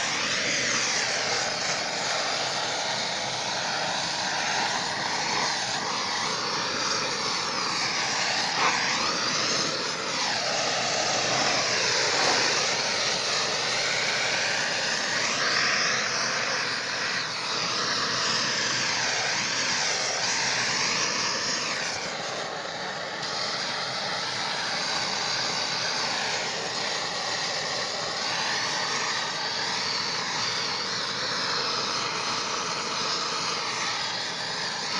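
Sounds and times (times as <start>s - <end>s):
blowtorch hissing: 0.0s - 34.9s.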